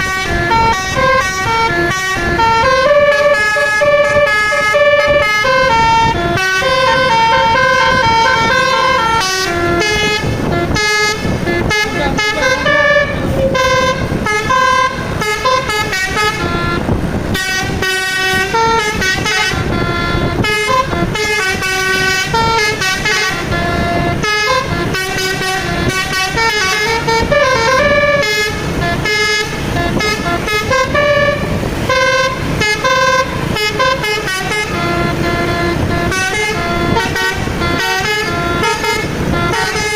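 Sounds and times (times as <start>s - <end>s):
musical bus horn playing a tune: 0.0s - 39.9s.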